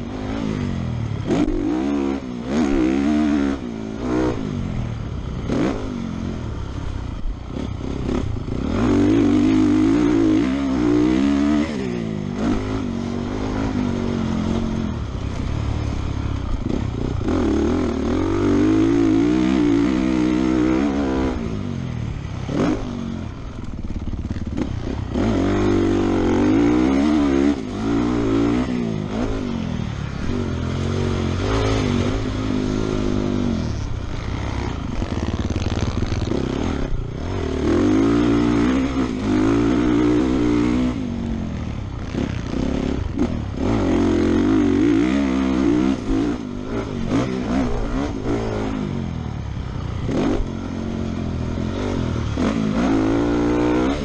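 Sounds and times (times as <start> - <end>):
motocross bike engine revving: 0.0 - 54.0
wind and track noise: 0.0 - 54.0.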